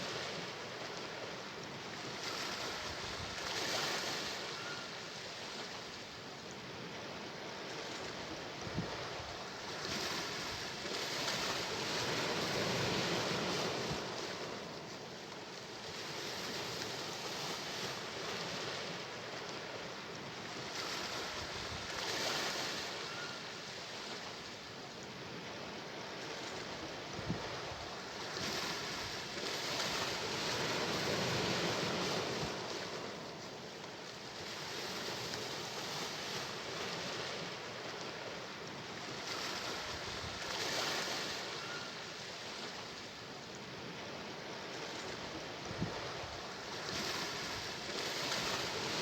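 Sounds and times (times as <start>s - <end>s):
sea waves washing ashore: 0.0s - 49.0s.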